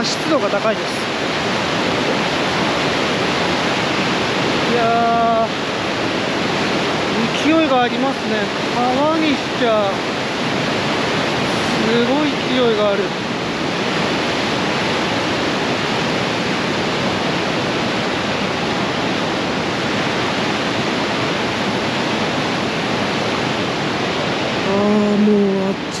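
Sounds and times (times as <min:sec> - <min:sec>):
river rapids roaring: 0:00.0 - 0:26.0.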